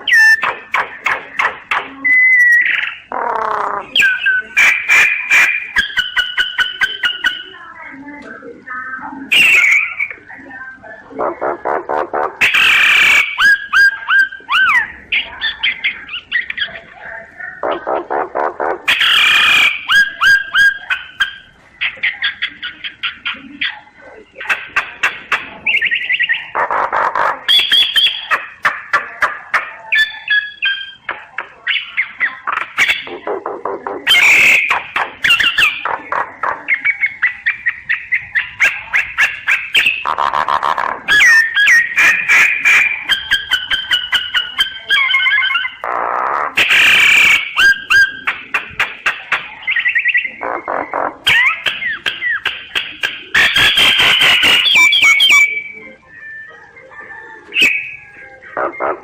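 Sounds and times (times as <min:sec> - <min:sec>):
myna bird singing: 0:00.0 - 0:59.0.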